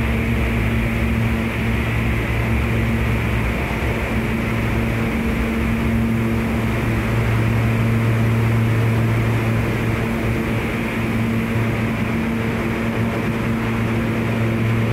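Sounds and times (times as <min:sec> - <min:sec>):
constant rushing noise: 0:00.0 - 0:14.9
low electrical hum: 0:00.0 - 0:14.9.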